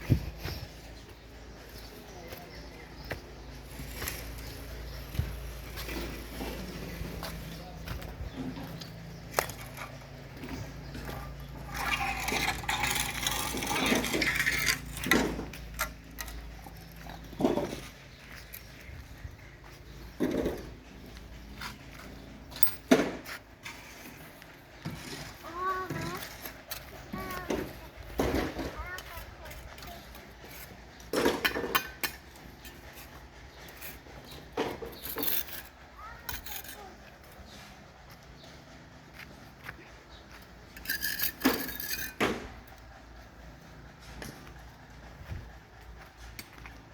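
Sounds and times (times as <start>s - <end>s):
metal clattering and scraping: 3.0s - 46.9s.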